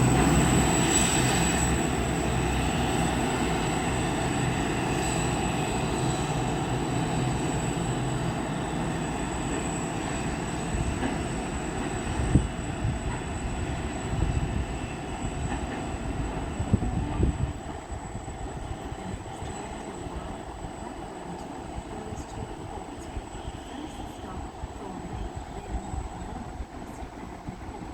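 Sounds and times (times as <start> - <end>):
train wagons rolling on rails: 0.0 - 27.9.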